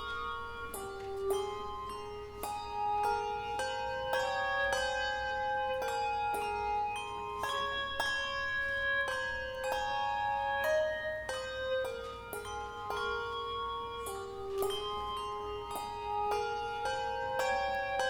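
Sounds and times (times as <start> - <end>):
instrumental christmas music: 0.0 - 18.0.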